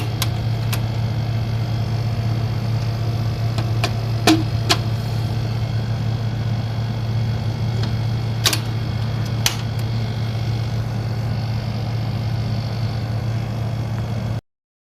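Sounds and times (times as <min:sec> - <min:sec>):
video cassette recorder humming: 0:00.0 - 0:14.4.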